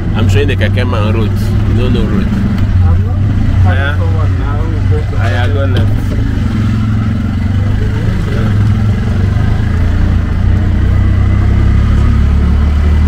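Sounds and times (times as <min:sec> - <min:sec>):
auto-rickshaw engine running: 0:00.0 - 0:13.0.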